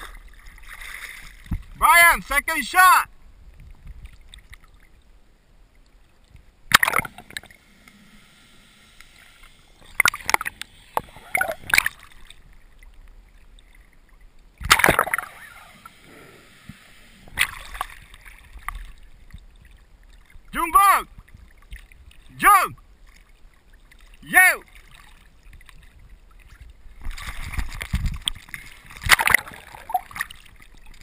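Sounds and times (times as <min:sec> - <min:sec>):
sea water splashing: 0:00.0 - 0:05.1, 0:05.9 - 0:31.0.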